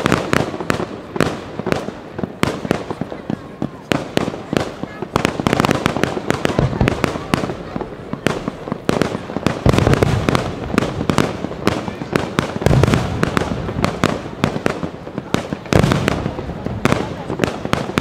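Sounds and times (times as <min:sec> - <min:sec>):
fireworks bangs and crackling: 0:00.0 - 0:18.0
heavy low firework booms: 0:00.0 - 0:18.0.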